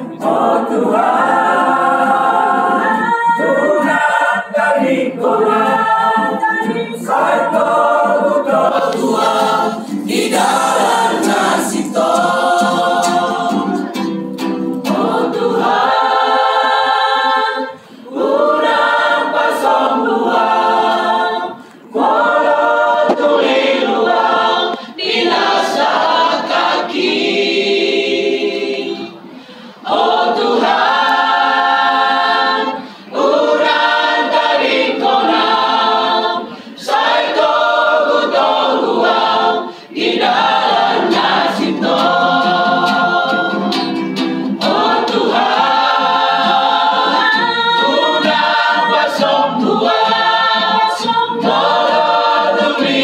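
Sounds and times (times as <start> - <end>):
mixed choir singing: 0.0 - 53.0.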